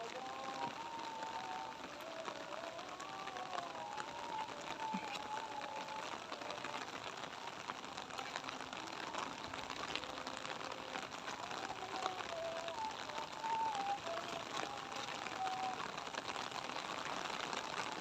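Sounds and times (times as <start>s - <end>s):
light rain pattering: 0.0s - 18.0s.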